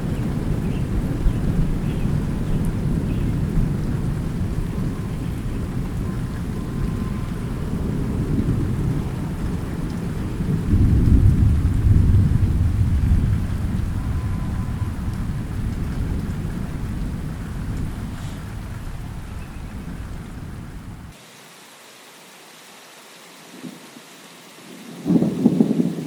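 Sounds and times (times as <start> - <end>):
rolling thunder: 0.0 - 21.2, 24.9 - 26.0
rain falling steadily: 0.0 - 26.0.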